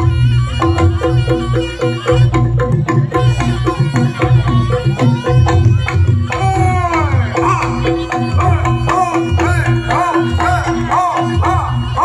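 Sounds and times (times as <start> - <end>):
hand-drum strokes: 0.0 - 12.0
high wavering melody: 0.0 - 12.0.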